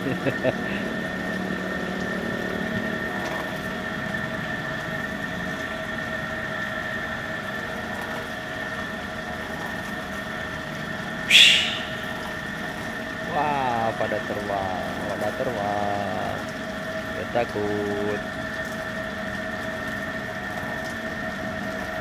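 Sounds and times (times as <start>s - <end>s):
steady mechanical drone: 0.0s - 22.0s.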